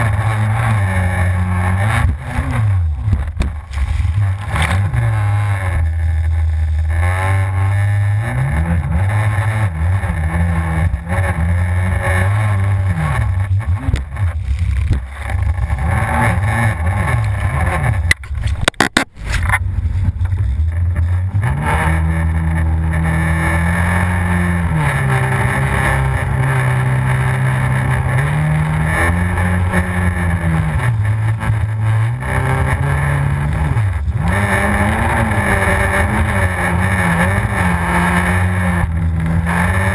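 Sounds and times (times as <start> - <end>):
personal watercraft engine revving: 0.0 - 39.9.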